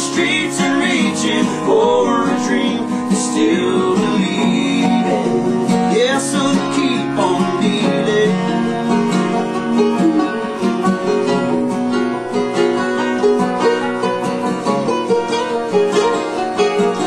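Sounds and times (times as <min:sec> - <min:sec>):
acoustic guitar picked and strummed: 0:00.0 - 0:17.0.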